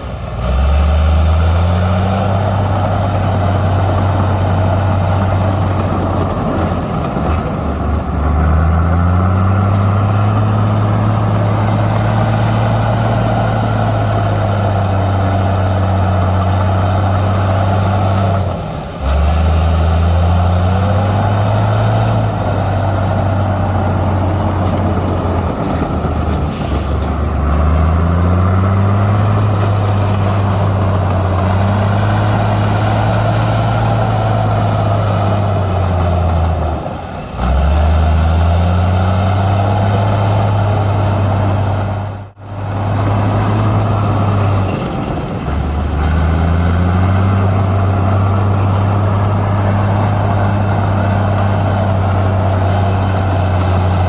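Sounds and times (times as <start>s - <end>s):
bulldozer diesel engine revving: 0.0s - 54.0s.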